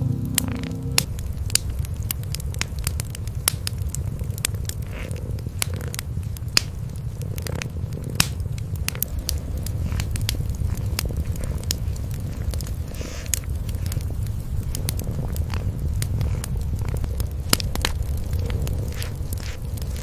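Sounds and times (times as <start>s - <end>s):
cats purring: 0.0s - 20.0s
wood fire crackling and popping: 0.0s - 20.0s.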